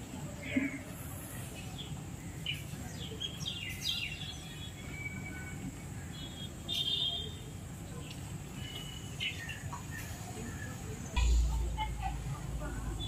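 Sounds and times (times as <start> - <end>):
birds chirping: 0.3 - 11.9.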